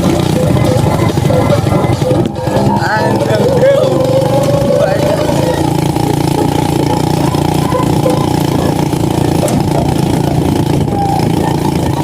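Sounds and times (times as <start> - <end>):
buggy engine running: 0.0 - 12.0.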